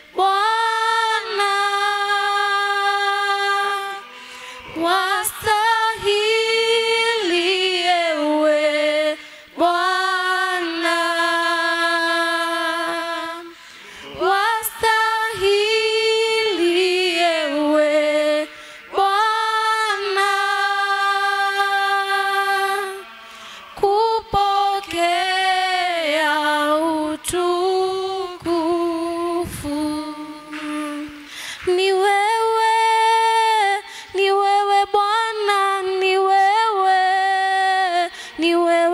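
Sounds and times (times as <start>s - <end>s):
woman singing unaccompanied: 0.0s - 23.0s, 23.8s - 38.9s.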